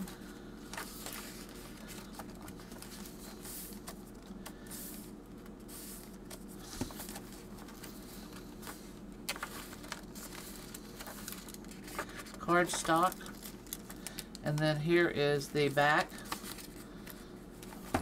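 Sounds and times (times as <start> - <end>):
faint steady hum: 0.0 - 18.0
paper pages rustling: 0.7 - 5.1, 5.8 - 14.8, 15.9 - 18.0.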